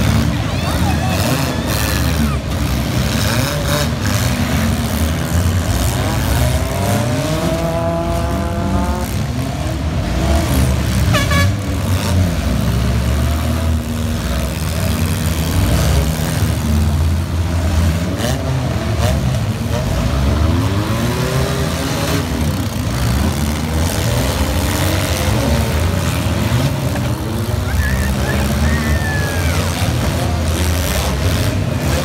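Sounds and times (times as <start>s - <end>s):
car engines running loud: 0.0s - 32.0s
engine revving: 0.0s - 32.0s.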